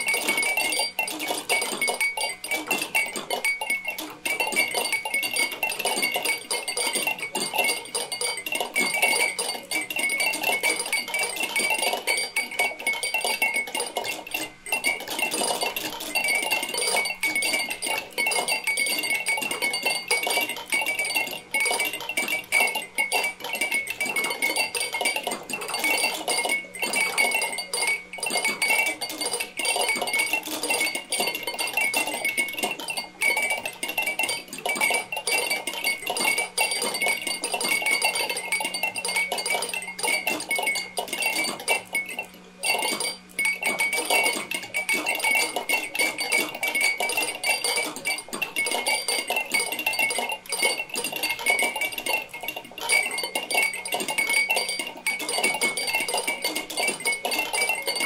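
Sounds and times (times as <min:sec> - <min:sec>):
clatter of small clicks: 0:00.0 - 0:58.0
steady ringing tones: 0:00.0 - 0:58.0.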